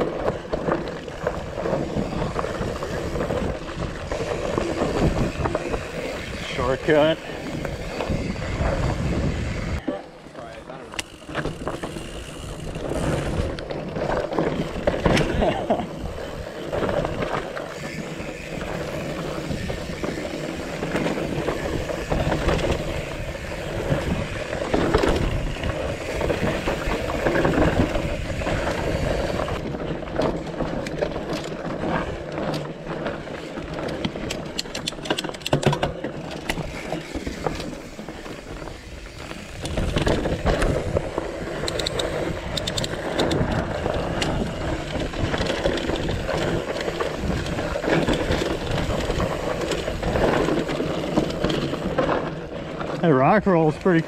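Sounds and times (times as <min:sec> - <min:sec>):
bike rattling and clicking: 0:00.0 - 0:54.0
tyres rolling over dirt and rock: 0:00.0 - 0:54.0.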